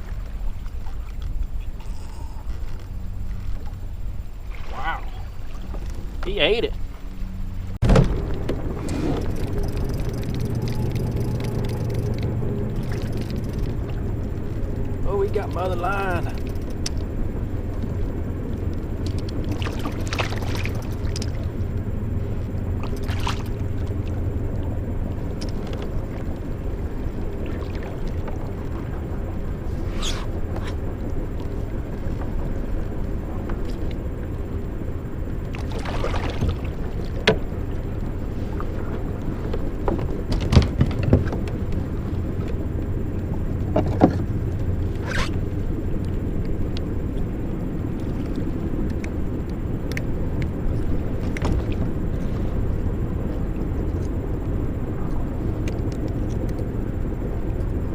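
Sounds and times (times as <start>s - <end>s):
wind rumble on microphone: 0.0s - 57.9s.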